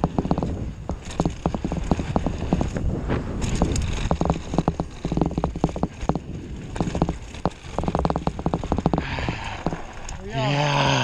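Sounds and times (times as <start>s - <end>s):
low rumble: 0.0s - 11.0s
mountain bike rattling over stones: 0.0s - 11.0s
tyres sliding on gravel: 0.0s - 11.0s.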